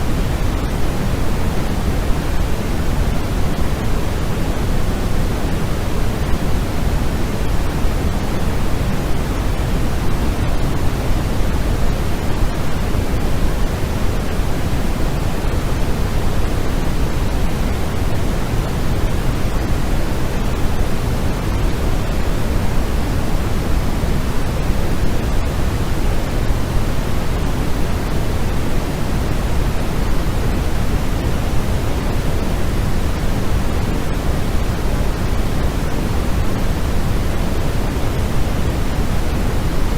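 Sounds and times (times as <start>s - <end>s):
synthetic hiss and rumble noise: 0.0s - 39.9s.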